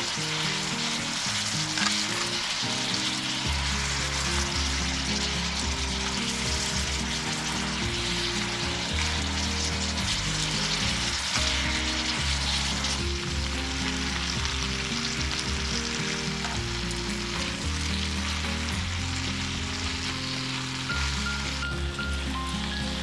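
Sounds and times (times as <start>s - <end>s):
background music with low notes: 0.0s - 23.0s
food sizzling in a pan: 0.0s - 23.0s.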